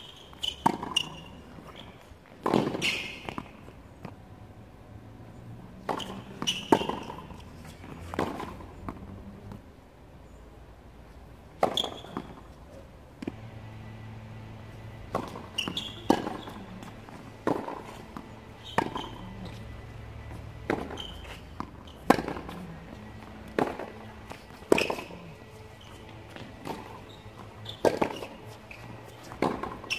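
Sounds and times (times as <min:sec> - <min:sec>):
racket striking tennis ball: 0:00.1 - 0:04.2, 0:05.8 - 0:09.1, 0:11.6 - 0:12.5, 0:13.2 - 0:29.9
tennis ball bouncing on court: 0:00.1 - 0:04.2, 0:05.7 - 0:09.6, 0:11.6 - 0:12.5, 0:13.2 - 0:29.9.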